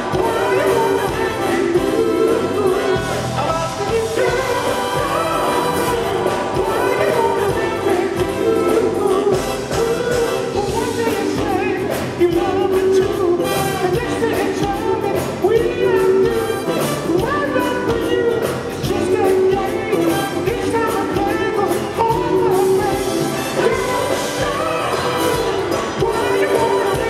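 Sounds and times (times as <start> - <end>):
man singing into a microphone: 0.0 - 27.0
soul band playing: 0.0 - 27.0.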